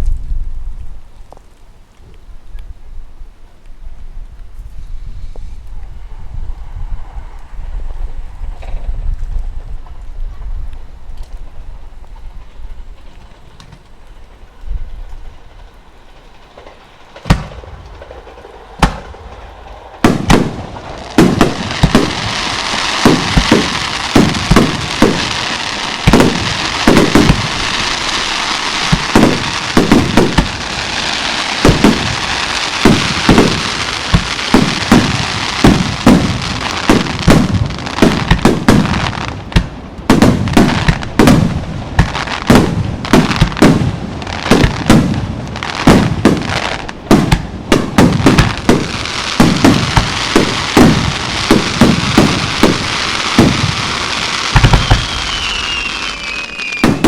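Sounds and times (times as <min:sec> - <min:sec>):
fireworks crackling: 0:00.0 - 0:57.0
fireworks booming: 0:07.7 - 0:57.0.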